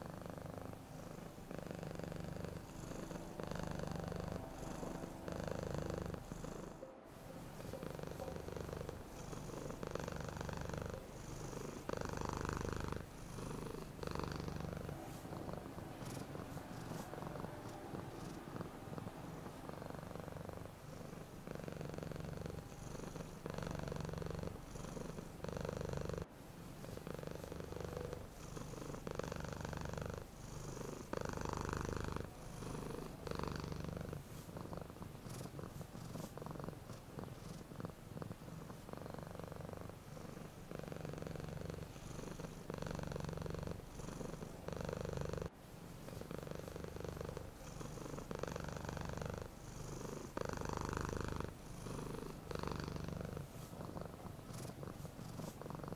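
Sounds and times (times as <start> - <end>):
cat purring: 0.0 - 55.9.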